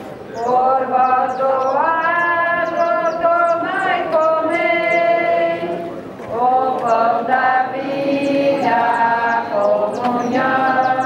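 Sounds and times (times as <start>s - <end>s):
congregation singing a hymn: 0.3s - 11.0s.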